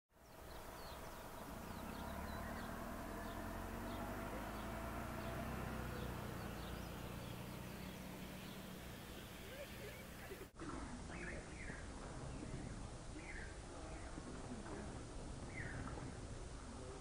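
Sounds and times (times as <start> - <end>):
small birds chirping: 0.2 - 14.6, 15.4 - 16.2
low steady rumble: 0.2 - 17.0.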